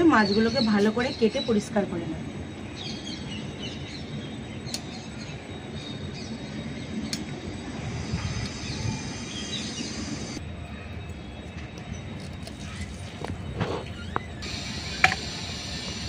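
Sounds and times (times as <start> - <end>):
faint high whine: 0.0 - 16.0
rumbling background noise: 0.0 - 16.0.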